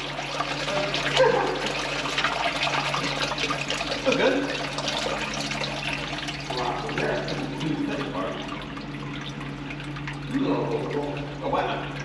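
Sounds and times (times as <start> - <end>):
steady low hum: 0.0 - 12.0
water splashing in a drain: 0.0 - 12.0.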